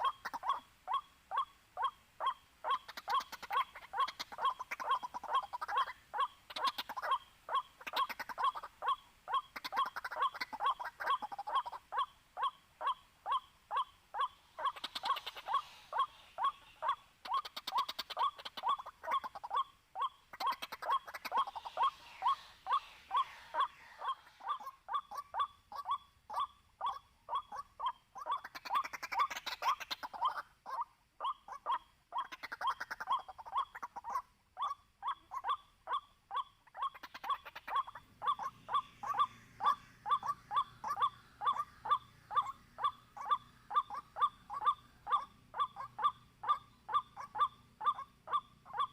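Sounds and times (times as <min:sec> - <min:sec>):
waterhen kwak calls: 0:00.0 - 0:48.9.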